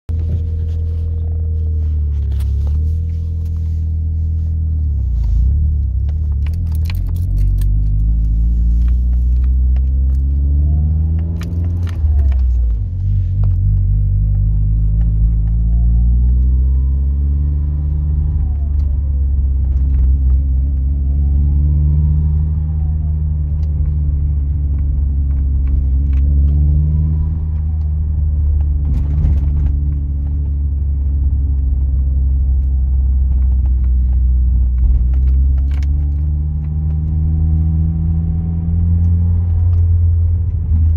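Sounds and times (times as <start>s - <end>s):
car engine revving: 0.1s - 40.9s.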